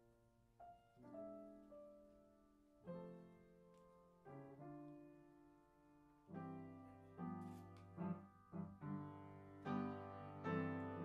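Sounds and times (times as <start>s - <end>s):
upright piano chords: 0.0s - 11.0s.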